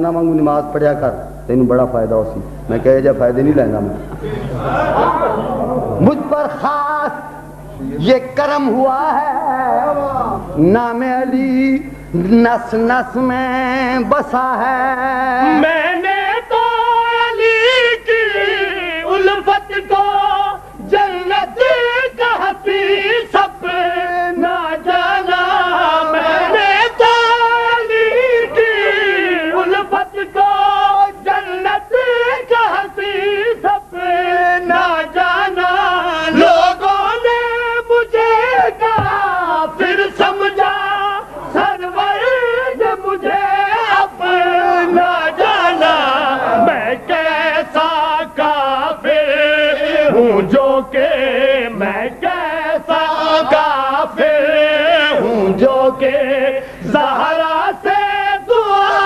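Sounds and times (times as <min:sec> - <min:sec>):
man singing devotional song: 0:06.0 - 0:59.0.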